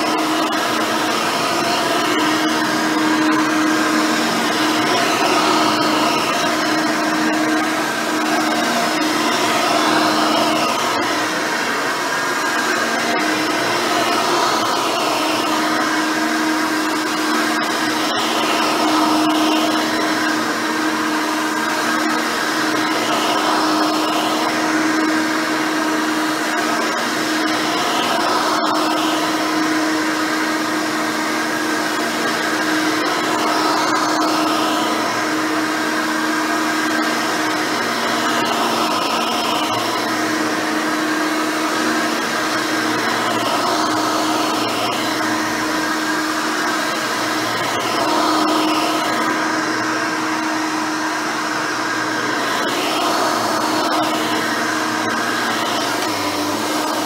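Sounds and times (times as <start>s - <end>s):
vacuum cleaner humming: 0.0s - 57.0s.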